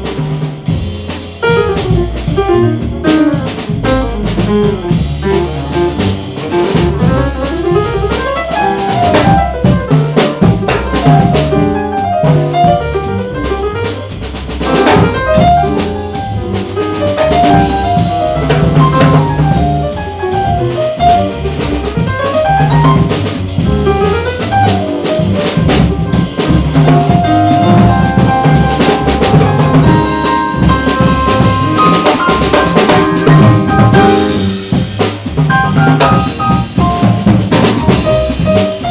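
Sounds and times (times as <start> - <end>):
bass line: 0.0 - 38.9
drum kit and cymbals: 0.0 - 38.9.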